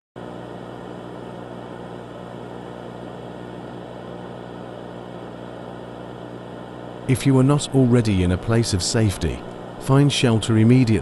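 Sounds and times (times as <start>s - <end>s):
electrical hum: 0.2s - 11.0s.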